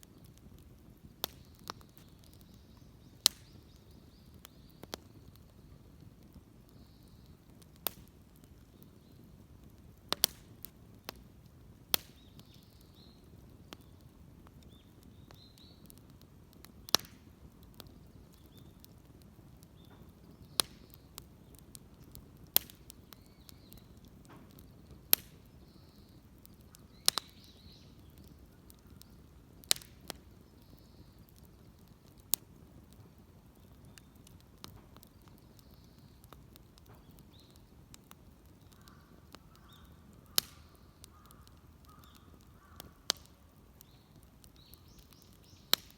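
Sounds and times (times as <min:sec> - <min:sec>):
low steady background noise: 0:00.0 - 0:45.9
sharp wood cracks: 0:03.2 - 0:05.5, 0:07.6 - 0:08.6, 0:10.1 - 0:11.2, 0:11.9 - 0:12.8, 0:13.7 - 0:45.9.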